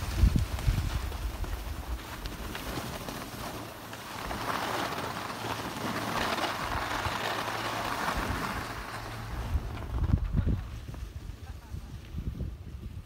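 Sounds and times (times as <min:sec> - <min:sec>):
skis scraping over snow: 0:00.0 - 0:13.0
wind rumble on microphone: 0:00.0 - 0:13.0.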